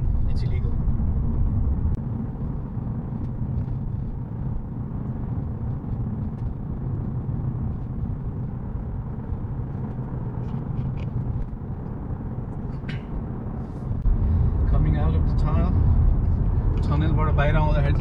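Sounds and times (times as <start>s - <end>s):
car driving through tunnel: 0.0s - 18.0s.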